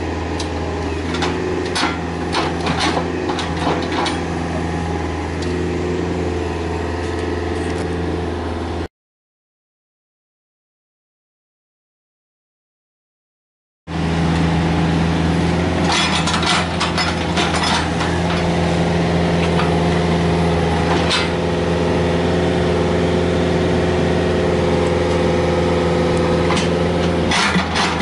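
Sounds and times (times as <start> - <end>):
excavator diesel engine running: 0.0 - 8.9, 13.9 - 28.0.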